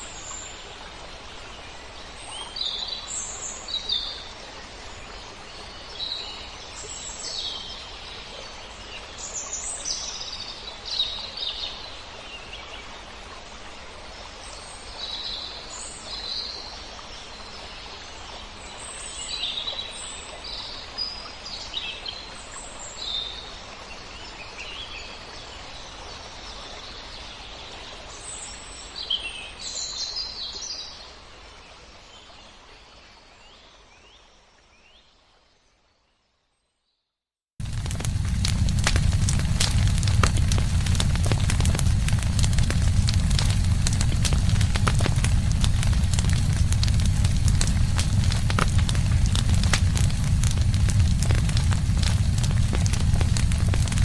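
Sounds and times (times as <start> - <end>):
wind rustling leaves: 0.0 - 33.0, 37.6 - 54.0.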